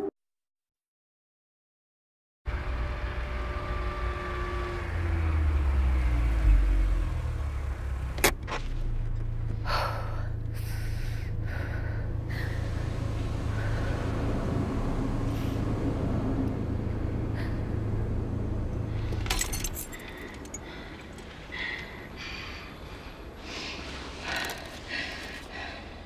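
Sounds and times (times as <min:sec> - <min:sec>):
vehicle engine rumbling: 0:02.5 - 0:26.0.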